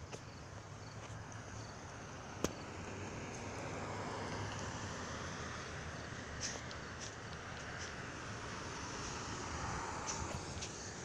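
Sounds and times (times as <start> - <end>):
car approaching: 0.0 - 11.0.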